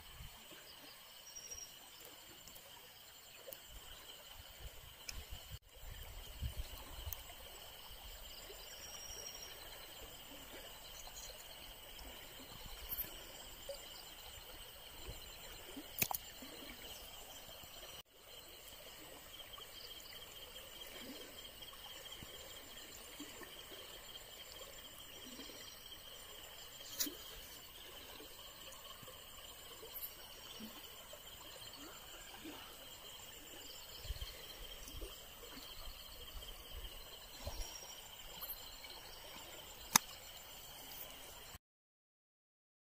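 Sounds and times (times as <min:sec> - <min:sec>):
high-pitched insect chorus: 0:00.0 - 0:41.6.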